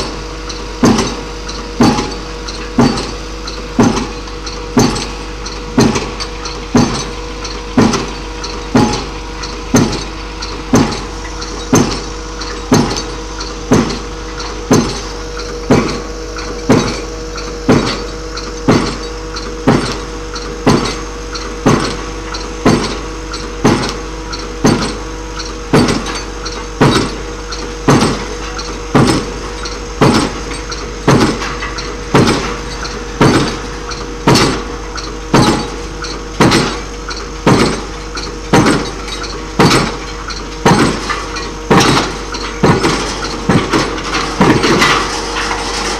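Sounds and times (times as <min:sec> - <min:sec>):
engine drone: 0:00.0 - 0:45.9.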